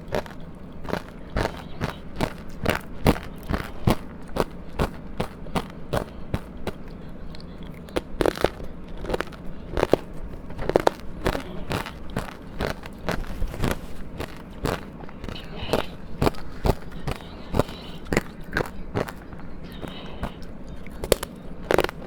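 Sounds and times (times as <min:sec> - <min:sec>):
chewing crunchy ice: 0:00.0 - 0:22.0.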